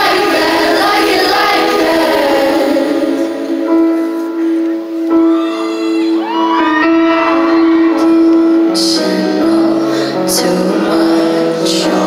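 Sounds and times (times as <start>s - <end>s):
singing voices: 0.0s - 12.0s.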